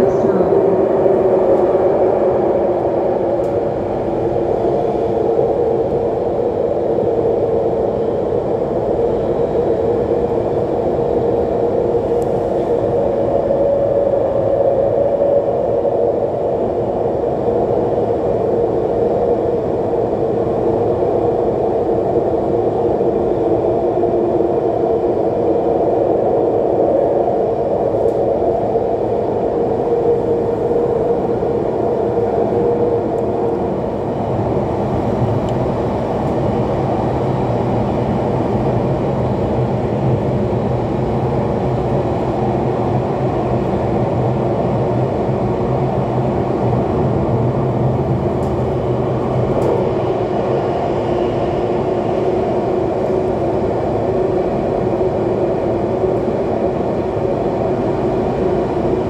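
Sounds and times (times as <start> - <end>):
metro train rumbling in tunnel: 0.0 - 59.0.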